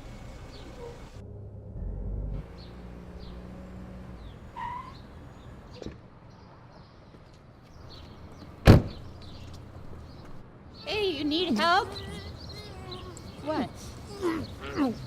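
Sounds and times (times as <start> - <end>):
small birds chirping: 2.5 - 15.0.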